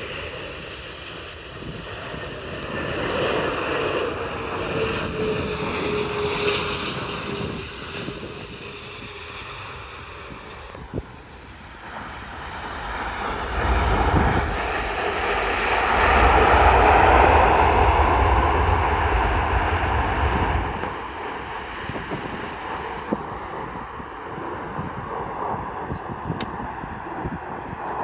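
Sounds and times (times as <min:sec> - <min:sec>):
deep rumble: 0:00.0 - 0:28.0
jet engines roaring: 0:00.0 - 0:28.0.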